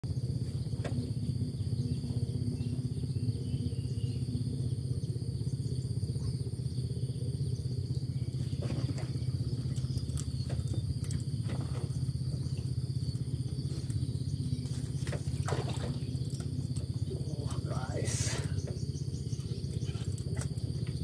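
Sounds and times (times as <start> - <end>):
low pulsing engine throb: 0.0 - 21.0.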